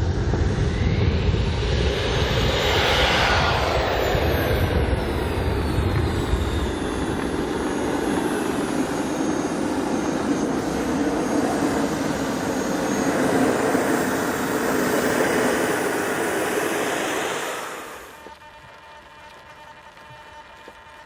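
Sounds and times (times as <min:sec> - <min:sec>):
whining tones sliding in pitch: 0:00.0 - 0:20.5
jet engines roaring: 0:00.0 - 0:21.0.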